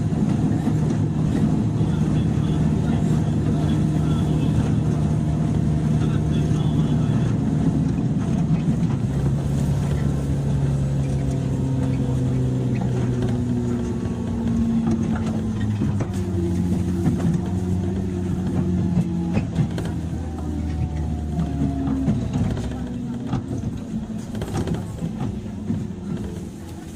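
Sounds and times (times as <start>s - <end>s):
train motor hum and rumble: 0.0s - 26.9s
wheels clicking over rail joints: 0.0s - 26.9s.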